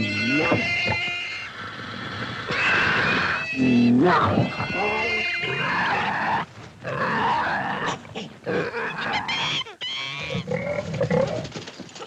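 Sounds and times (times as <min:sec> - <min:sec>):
animals growling and snarling: 0:00.0 - 0:11.6.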